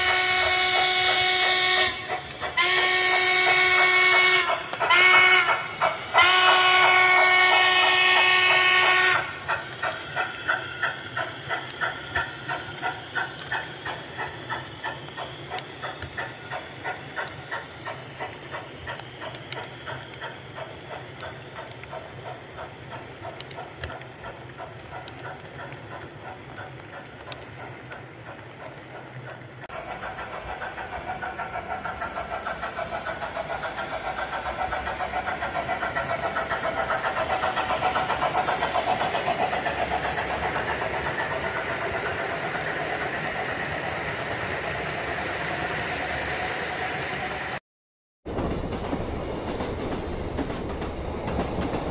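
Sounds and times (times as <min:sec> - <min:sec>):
model steam train chuffs: 0:00.0 - 0:47.6, 0:48.3 - 0:51.9
model train rolling on track: 0:00.0 - 0:47.6, 0:48.3 - 0:51.9.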